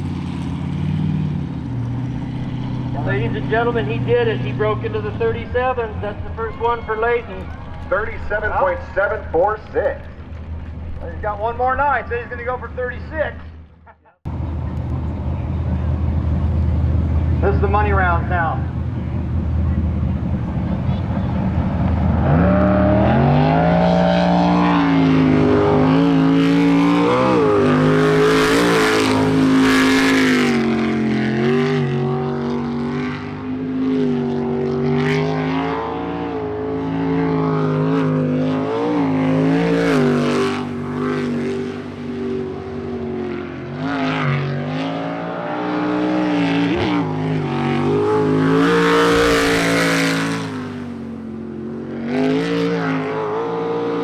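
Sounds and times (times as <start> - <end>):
boat racing engine revving: 0.0 - 54.0.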